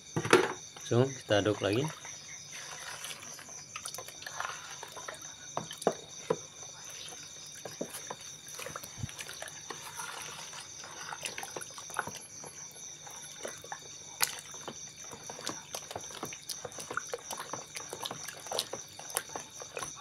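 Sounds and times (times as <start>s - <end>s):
cricket trill: 0.0s - 20.0s
liquid sloshing in a bowl: 0.2s - 20.0s.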